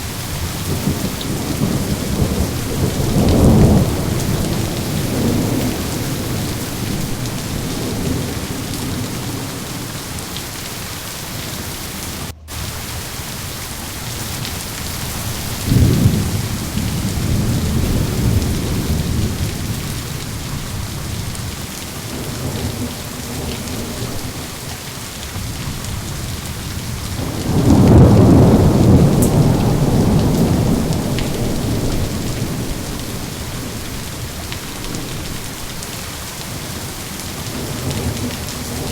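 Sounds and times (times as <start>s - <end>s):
heavy rain: 0.0s - 38.9s
rolling thunder: 0.0s - 38.9s.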